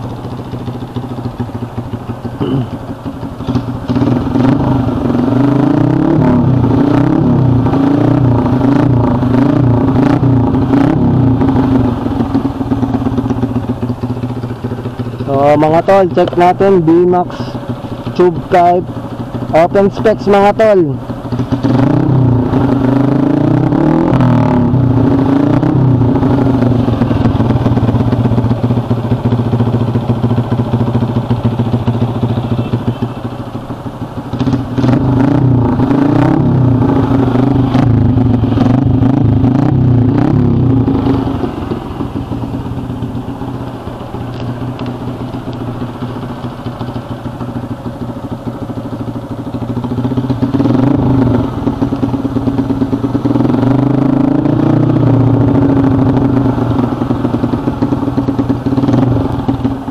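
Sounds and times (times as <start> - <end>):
motorcycle engine idling: 0.0 - 59.9
motorcycle engine revving: 0.0 - 59.9.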